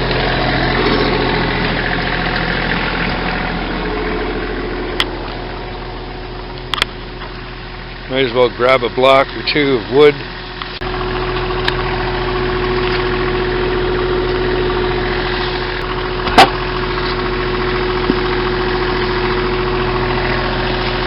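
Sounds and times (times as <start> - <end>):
excavator engine idling: 0.0 - 21.0.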